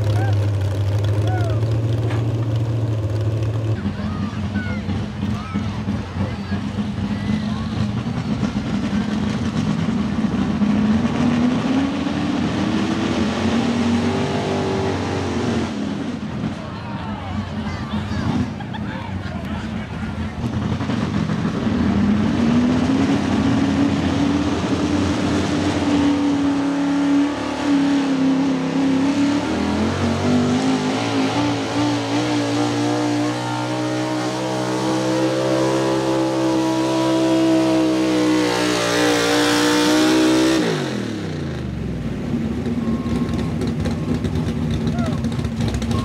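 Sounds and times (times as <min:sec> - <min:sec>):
truck engine at high revs: 0:00.0 - 0:46.0.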